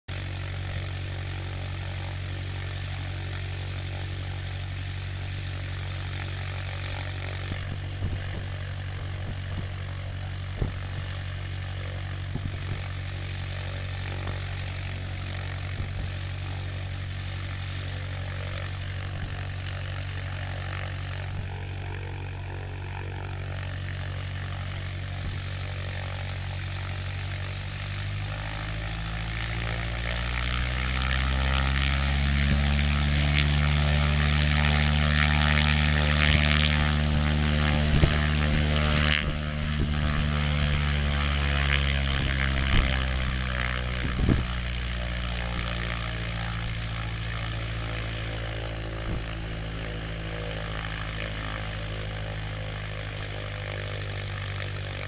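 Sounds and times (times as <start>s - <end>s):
aircraft piston engine running: 0.1s - 55.0s.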